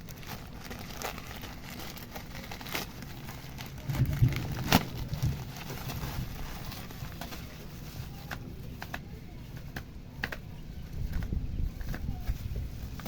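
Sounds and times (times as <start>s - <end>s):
faint crinkling: 0.0s - 13.0s.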